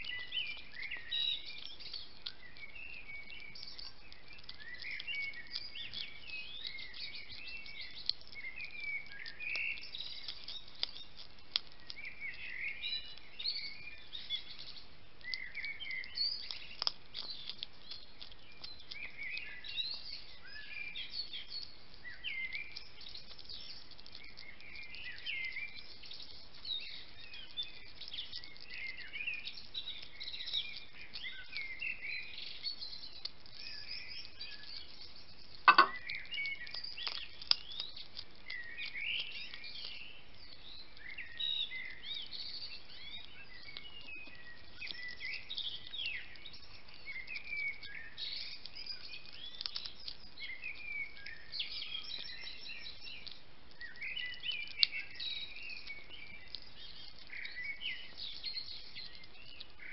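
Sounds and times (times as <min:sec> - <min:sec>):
hedgehog chewing and crunching: 0:00.0 - 0:59.9.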